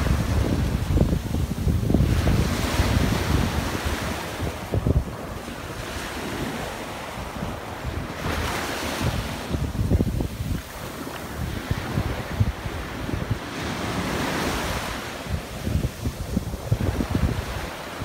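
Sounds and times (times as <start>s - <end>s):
broad rushing wash: 0.0s - 18.0s
wind buffeting microphone: 0.0s - 18.0s.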